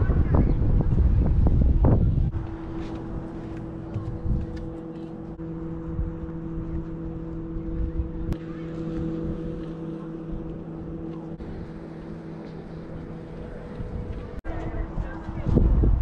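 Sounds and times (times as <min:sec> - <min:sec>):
low machine hum: 0:00.0 - 0:16.0
wind rumbling on microphone: 0:00.0 - 0:16.0.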